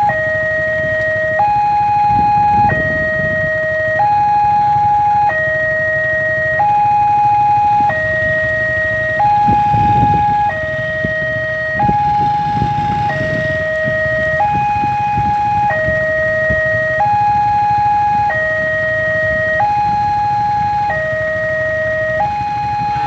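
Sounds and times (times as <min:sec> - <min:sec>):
motorcycle engines idling: 0:00.0 - 0:23.0.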